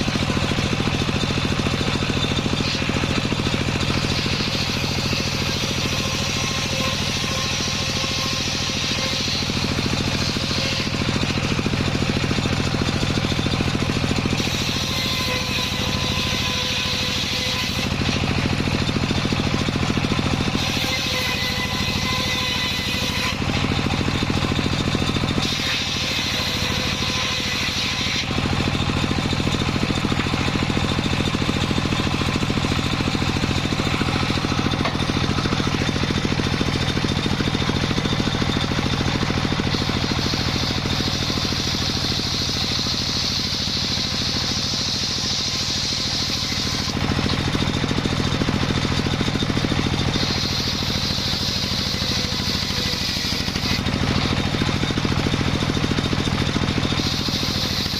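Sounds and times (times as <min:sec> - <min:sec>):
saw cutting hiss: 0:00.0 - 0:57.9
sawmill machinery running: 0:00.0 - 0:57.9.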